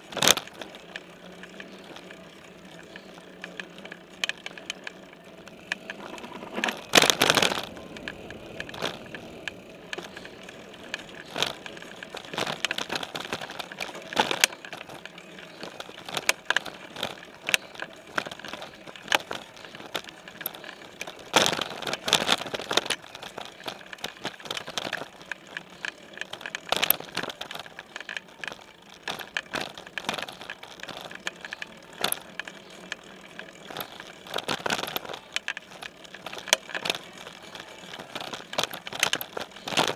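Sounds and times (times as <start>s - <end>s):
bike frame knocks and rattles: 0.0s - 39.9s
bike tyres rolling on dirt: 0.0s - 39.9s.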